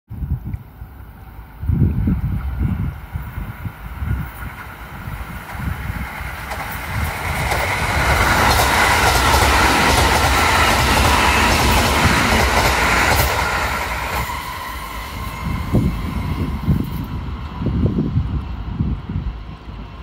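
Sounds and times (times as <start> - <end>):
train wheels on rails: 0.4 - 20.0
electric train passing: 0.8 - 20.0.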